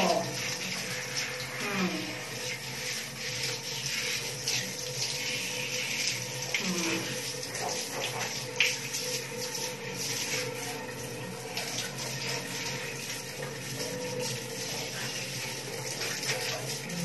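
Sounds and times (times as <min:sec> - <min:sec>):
shower water spraying: 0:00.0 - 0:17.0.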